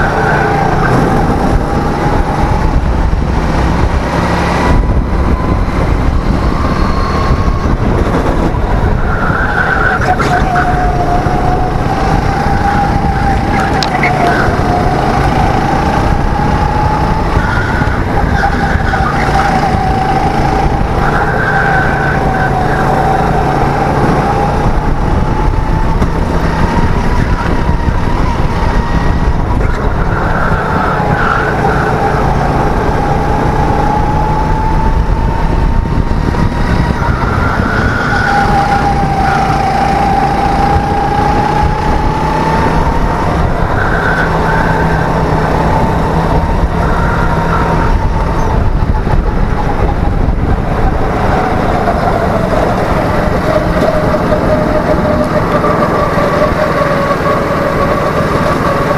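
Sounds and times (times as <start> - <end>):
go-kart engine whining: 0.0 - 58.9.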